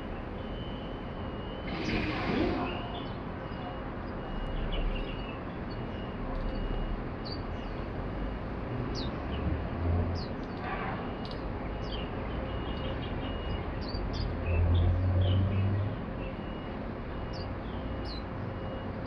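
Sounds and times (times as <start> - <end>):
birds chirping: 0.0 - 8.0, 11.2 - 18.8
city background hum: 0.0 - 19.0.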